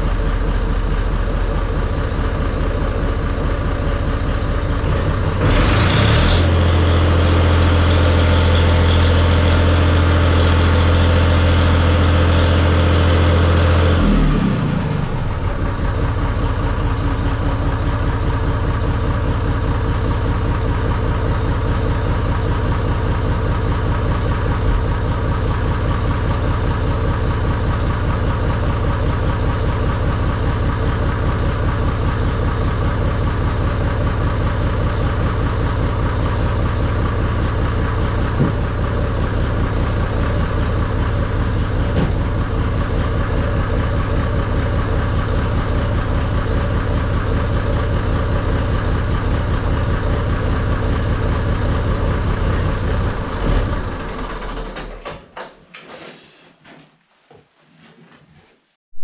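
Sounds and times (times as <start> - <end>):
tractor engine idling: 0.0 - 55.1.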